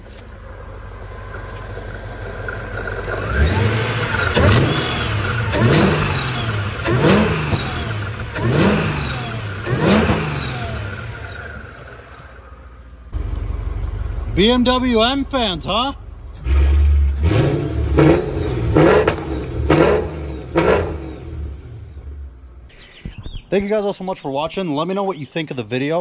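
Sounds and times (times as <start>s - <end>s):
engine revving with whine: 0.0s - 15.3s, 16.3s - 22.6s.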